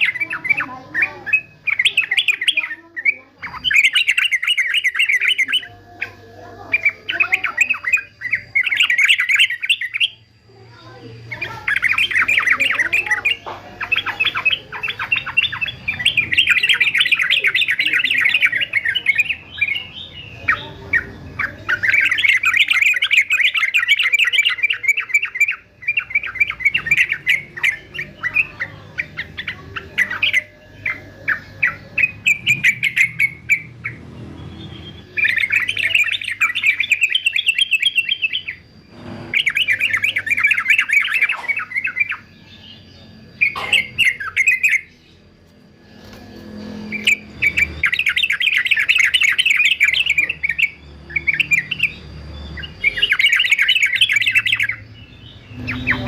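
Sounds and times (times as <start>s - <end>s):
bird chattering calls: 0.0s - 56.0s.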